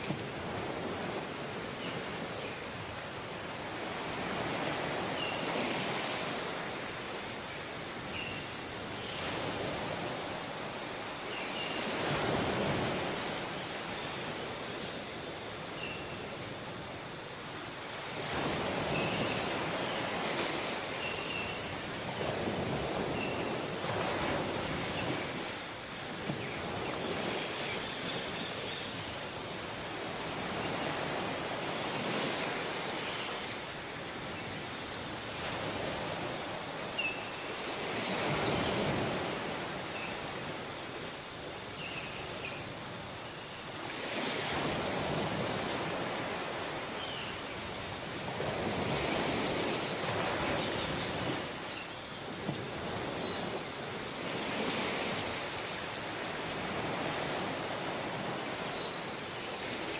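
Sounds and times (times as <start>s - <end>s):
sea waves washing onto beach: 0.0s - 15.7s, 16.3s - 59.9s.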